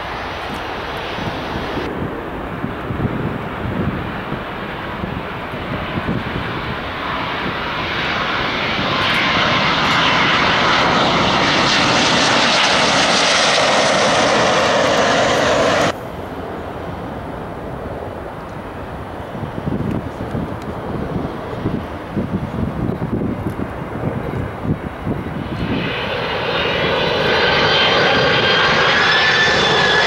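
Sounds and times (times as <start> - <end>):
jet airliner passing overhead: 0.0 - 30.0
outdoor background noise: 0.0 - 30.0.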